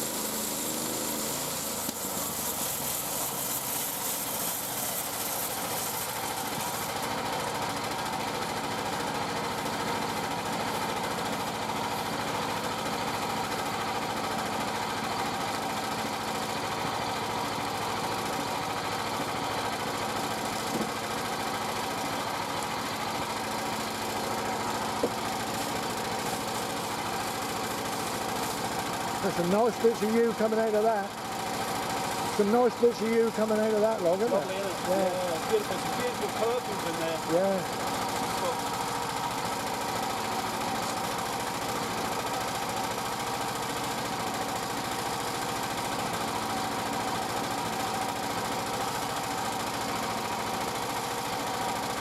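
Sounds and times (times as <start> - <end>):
bandsaw mill engine sawing log: 0.0 - 52.0.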